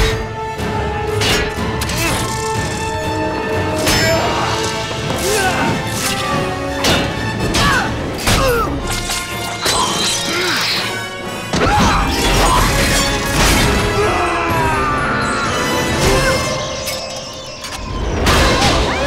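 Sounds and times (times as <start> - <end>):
orchestral action music: 0.0 - 19.0.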